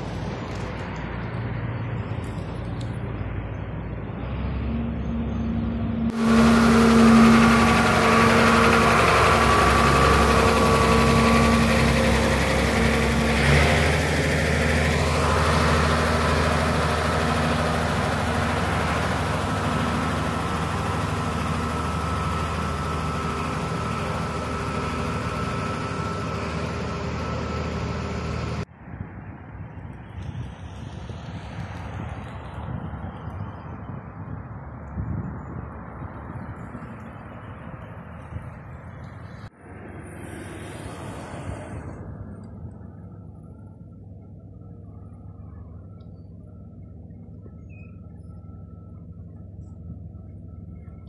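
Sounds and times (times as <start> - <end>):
road roller engine droning: 0.0 - 28.7, 30.0 - 51.0
street noise: 0.0 - 51.0.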